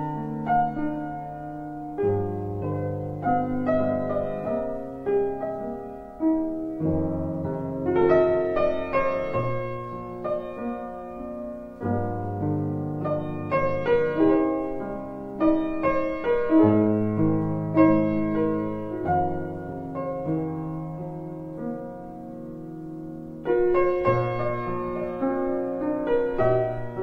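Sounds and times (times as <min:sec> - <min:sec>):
slow calm piano music: 0:00.0 - 0:27.0.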